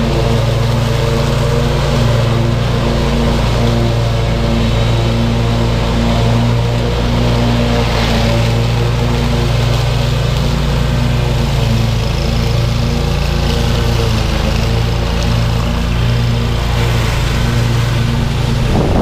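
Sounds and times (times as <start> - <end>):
lawn mower engine running: 0.0 - 19.0
mower blades mulching dry leaves: 0.0 - 19.0.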